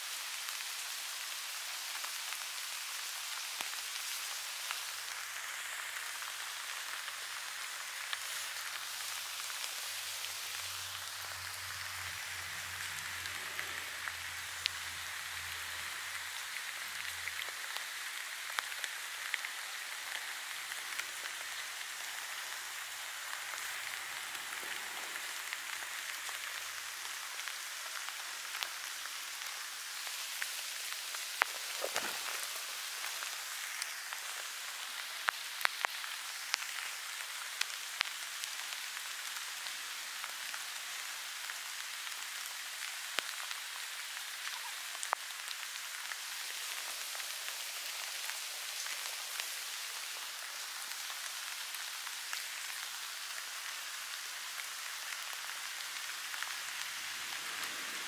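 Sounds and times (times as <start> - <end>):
rain on grass and leaves: 0.0 - 58.0.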